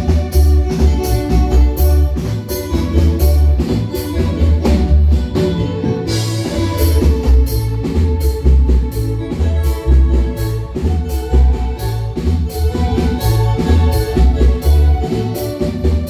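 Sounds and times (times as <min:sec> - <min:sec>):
bass beat: 0:00.0 - 0:16.0
drums: 0:00.0 - 0:16.0
keyboard notes: 0:00.0 - 0:16.0
marimba: 0:00.0 - 0:16.0.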